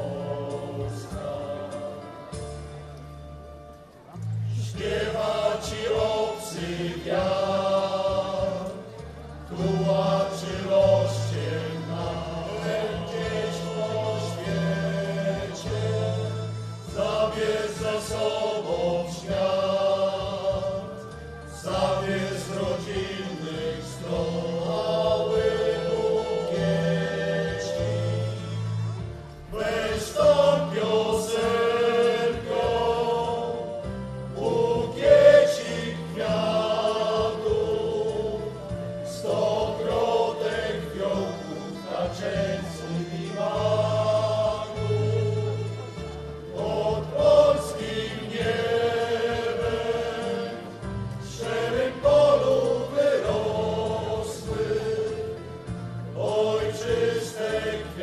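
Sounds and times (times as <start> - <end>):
choir singing in harmony: 0.0 - 3.3, 4.1 - 58.0.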